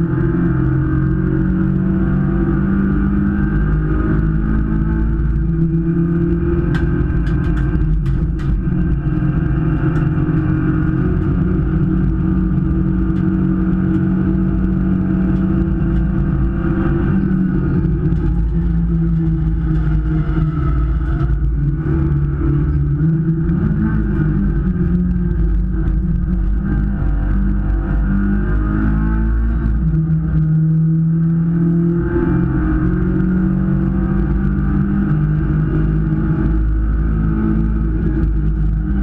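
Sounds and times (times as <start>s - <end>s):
race car engine running hard: 0.0s - 39.0s.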